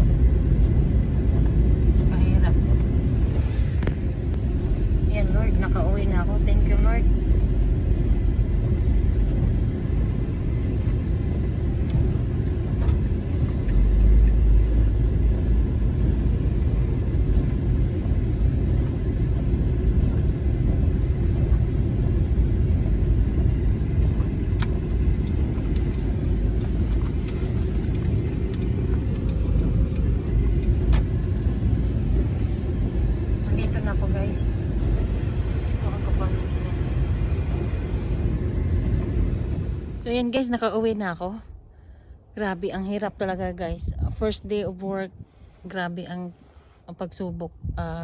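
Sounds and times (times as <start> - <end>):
car engine rumbling: 0.0 - 48.0.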